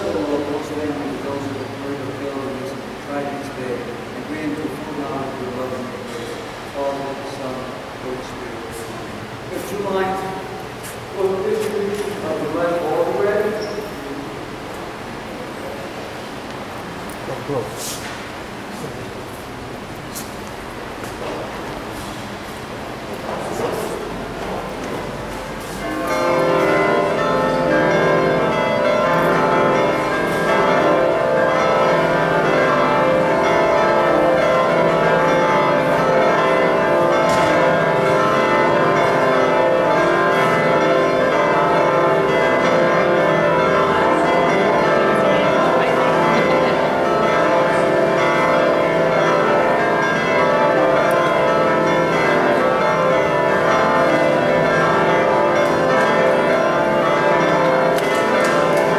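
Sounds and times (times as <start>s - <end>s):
church bells pealing: 0.0s - 16.0s, 21.1s - 58.9s.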